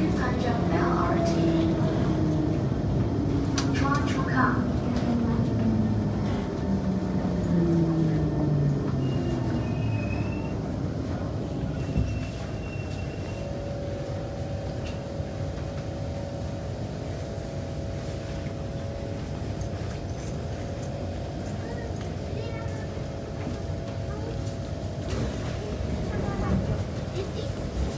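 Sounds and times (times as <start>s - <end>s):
train traction motor whine: 0.0s - 26.9s
train running rumble: 0.0s - 27.9s.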